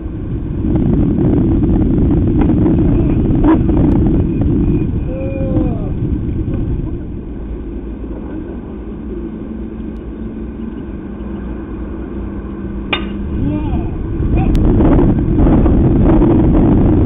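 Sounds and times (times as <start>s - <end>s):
low field rumble: 0.0s - 17.0s.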